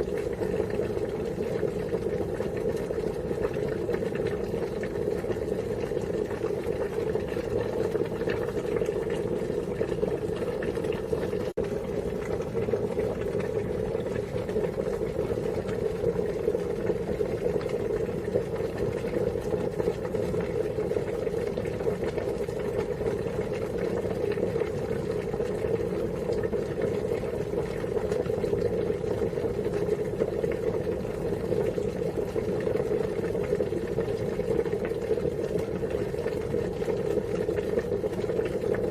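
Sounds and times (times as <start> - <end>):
water boiling: 0.0 - 38.9.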